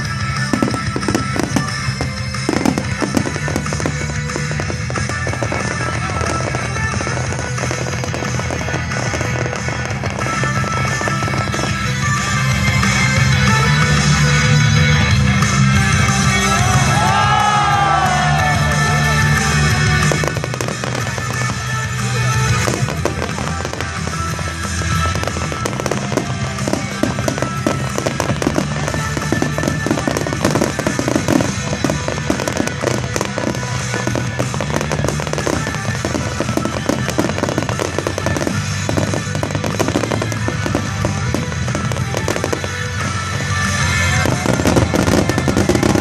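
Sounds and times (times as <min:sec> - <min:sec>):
fireworks crackling and banging: 0:00.0 - 0:46.0
music playing: 0:00.0 - 0:46.0.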